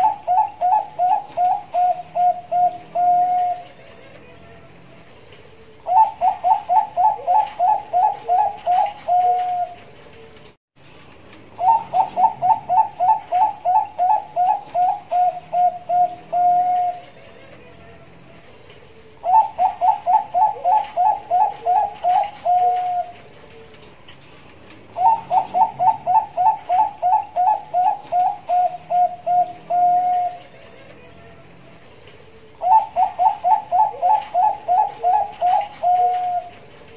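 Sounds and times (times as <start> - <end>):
dove cooing: 0.0 - 10.5, 11.5 - 24.0, 24.8 - 36.9.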